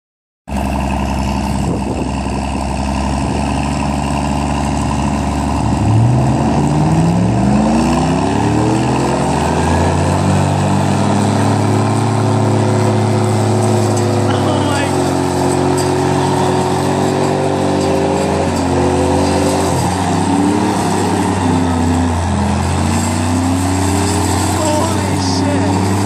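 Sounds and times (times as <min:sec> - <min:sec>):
engine working under load: 0:00.5 - 0:26.0.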